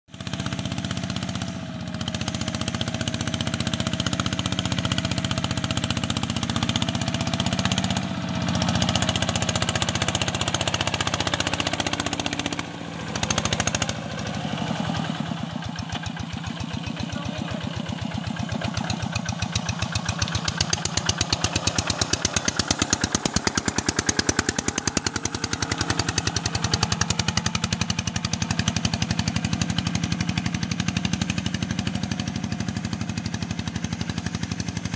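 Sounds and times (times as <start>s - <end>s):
diesel engine chugging under load: 0.1s - 34.9s.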